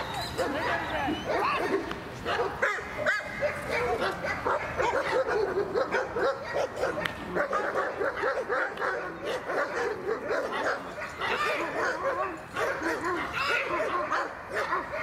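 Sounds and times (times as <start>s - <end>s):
dog yipping and barking: 0.0s - 15.0s.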